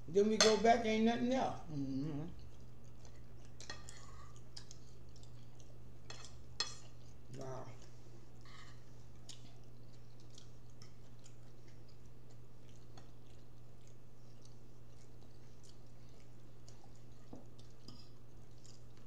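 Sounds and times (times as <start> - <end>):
steady low hum: 0.0 - 19.0
people chewing food: 1.4 - 19.0.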